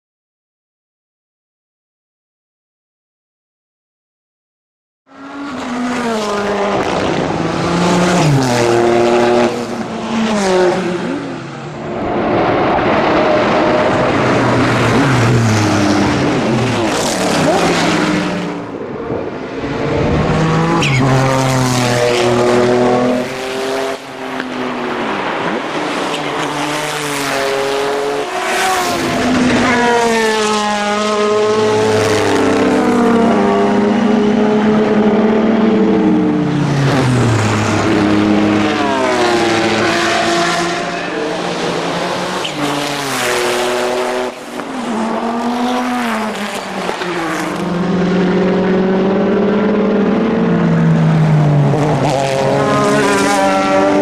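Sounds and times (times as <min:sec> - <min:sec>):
race car engines passing: 0:05.1 - 0:54.0.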